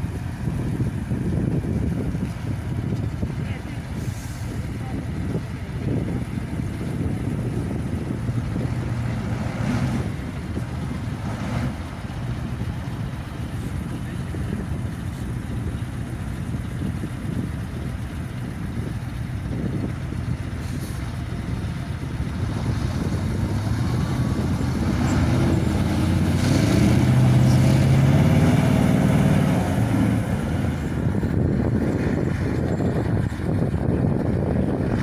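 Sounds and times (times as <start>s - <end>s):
truck diesel engine rumble: 0.0s - 35.0s.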